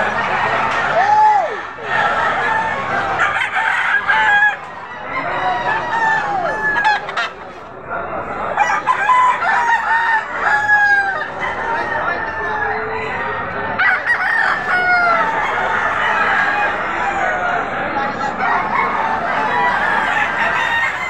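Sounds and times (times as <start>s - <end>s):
roosters crowing: 0.0s - 7.6s, 8.2s - 21.0s.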